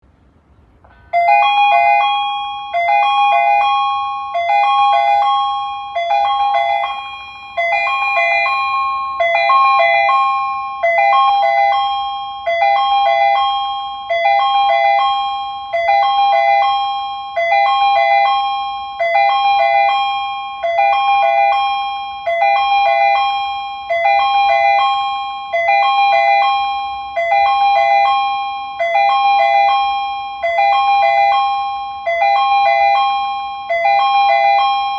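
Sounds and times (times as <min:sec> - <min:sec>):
bell-like electronic chime: 0:00.9 - 0:34.9.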